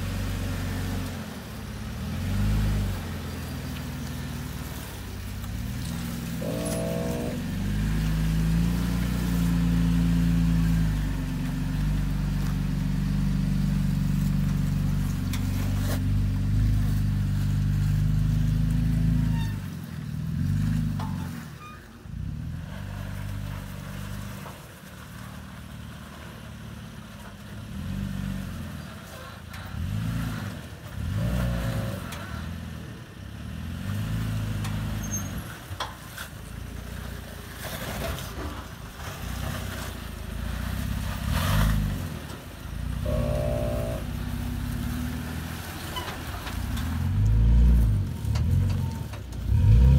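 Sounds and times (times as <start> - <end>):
truck engine revving under load: 0.0 - 21.5, 22.1 - 49.9.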